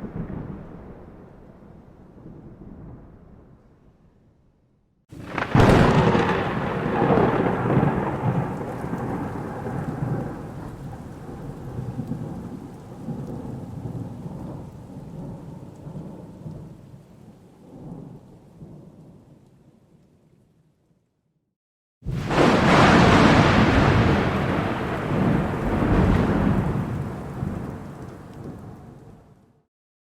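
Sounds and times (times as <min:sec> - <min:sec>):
thunder crack and rumble: 0:00.0 - 0:03.9, 0:05.1 - 0:19.4, 0:22.0 - 0:29.4.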